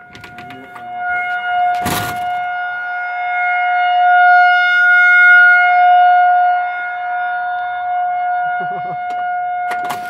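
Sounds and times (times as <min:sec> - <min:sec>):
warning siren steady tone: 0:00.0 - 0:10.0.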